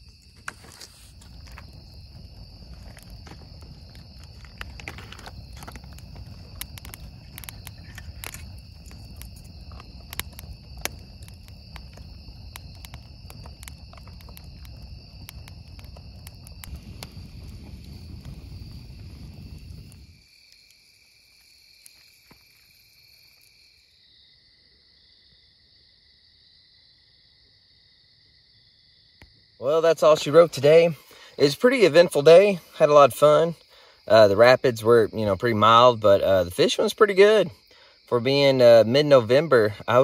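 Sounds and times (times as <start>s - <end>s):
campfire crackling and popping: 0.0s - 24.0s, 29.2s - 40.0s
insects chorus: 0.0s - 40.0s.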